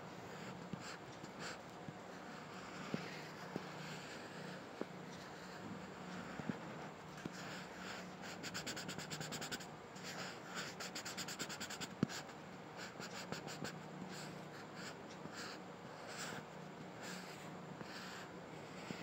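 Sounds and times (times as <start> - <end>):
pencil scratching on paper: 2.2 - 19.0.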